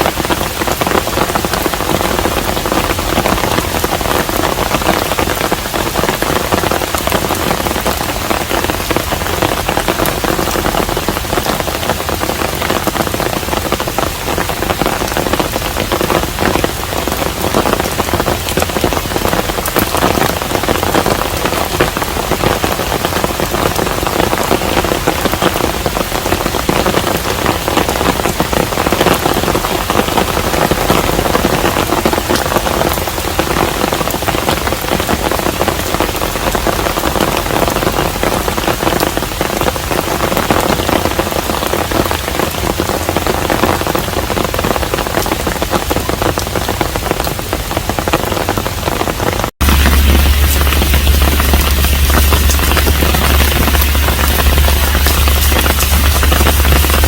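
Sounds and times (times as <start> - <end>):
steady rain falling on roof: 0.0 - 57.0.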